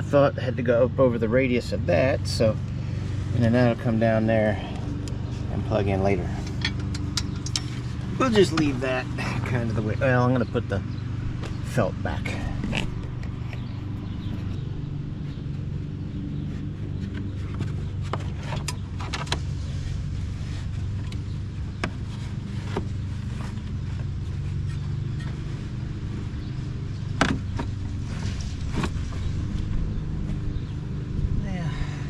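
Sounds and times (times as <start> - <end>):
low engine-like hum: 0.0 - 32.0.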